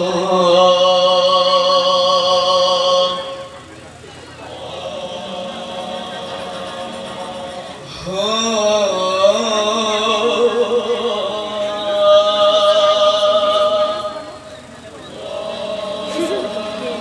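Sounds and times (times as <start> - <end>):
male group singing in harmony: 0.0 - 3.7, 4.4 - 17.0.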